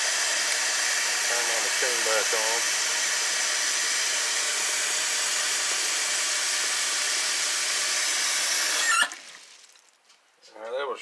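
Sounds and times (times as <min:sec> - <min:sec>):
tap water running into container: 0:00.0 - 0:10.0.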